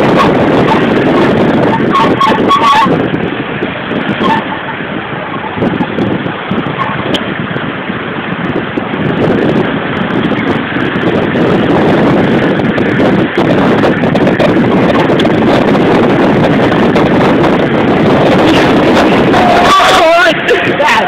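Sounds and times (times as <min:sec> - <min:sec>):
street traffic: 0:00.0 - 0:21.0
wind buffeting microphone: 0:00.0 - 0:21.0.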